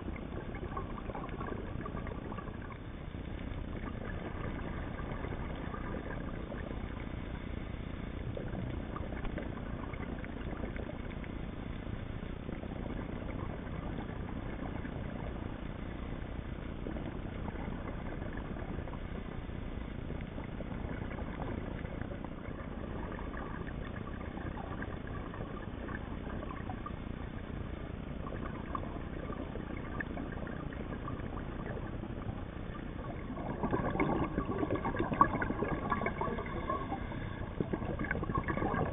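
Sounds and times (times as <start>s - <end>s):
muffled underwater rumble and hiss: 0.0s - 38.9s.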